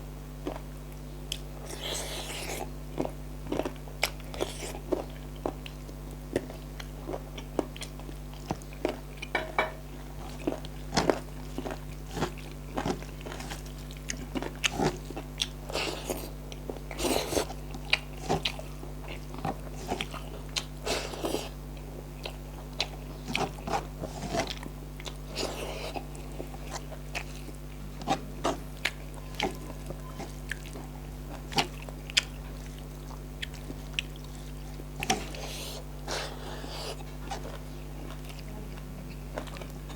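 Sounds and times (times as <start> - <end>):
low electrical hum: 0.0 - 39.9
person chewing and crunching: 0.4 - 0.7, 1.3 - 39.9.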